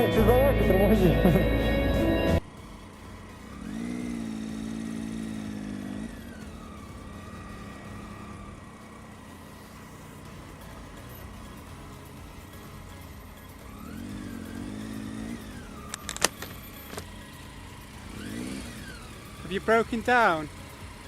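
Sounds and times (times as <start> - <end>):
motorcycle engine revving: 0.0 - 21.0
road noise: 0.0 - 21.0.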